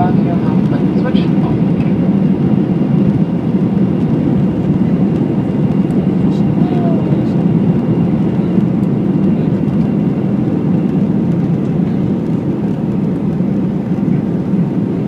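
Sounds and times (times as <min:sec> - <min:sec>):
jet engines and airflow rushing: 0:00.0 - 0:15.0.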